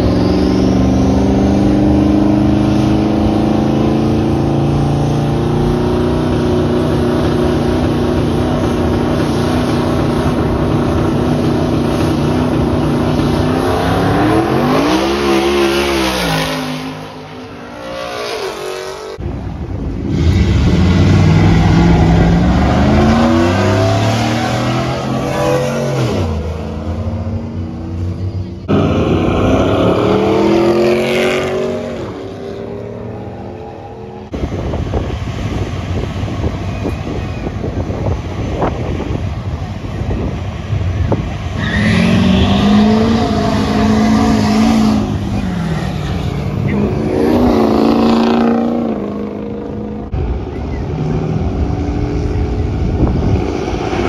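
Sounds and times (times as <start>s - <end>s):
truck engines revving: 0.0s - 54.0s.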